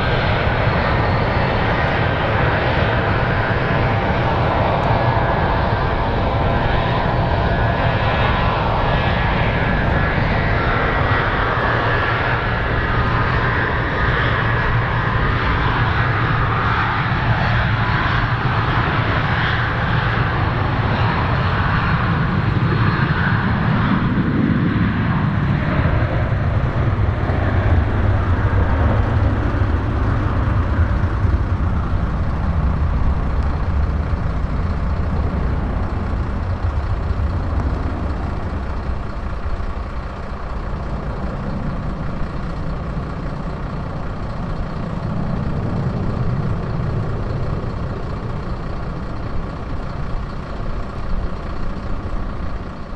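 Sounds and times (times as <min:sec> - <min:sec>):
jet airliner taking off: 0:00.0 - 0:52.9.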